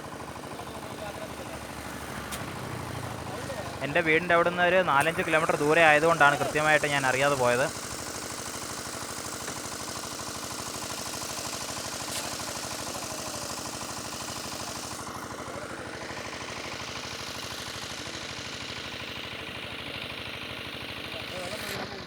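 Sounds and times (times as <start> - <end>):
engine running with fast pulsing: 0.0 - 22.0.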